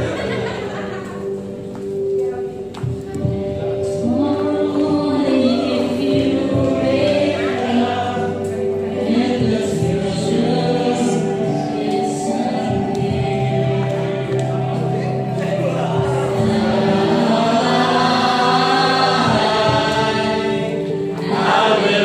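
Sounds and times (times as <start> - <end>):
choir singing over held notes: 2.9 - 22.0.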